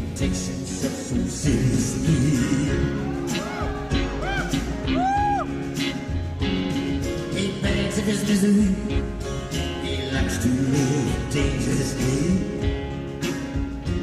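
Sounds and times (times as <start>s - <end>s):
person singing: 0.0s - 6.2s, 6.9s - 14.0s
electric guitar: 0.0s - 14.0s
steady drum beat: 0.0s - 14.0s.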